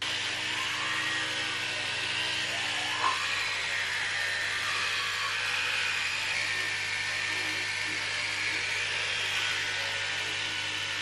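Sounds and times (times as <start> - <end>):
electric toothbrush buzzing: 0.0 - 11.0.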